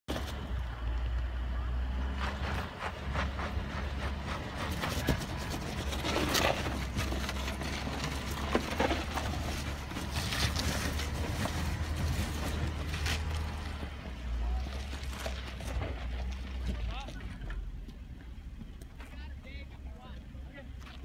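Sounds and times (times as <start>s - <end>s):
car engine humming: 0.1s - 21.0s
tyres crunching on rocks: 2.0s - 19.2s.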